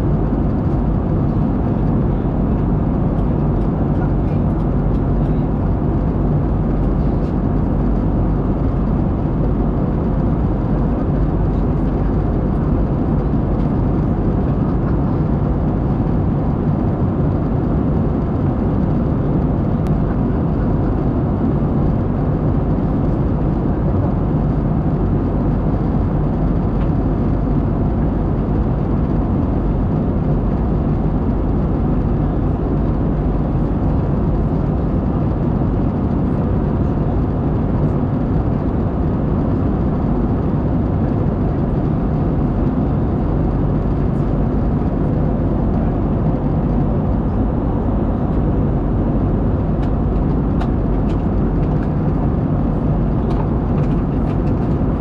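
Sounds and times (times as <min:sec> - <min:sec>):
jet engine drone: 0:00.0 - 0:55.0.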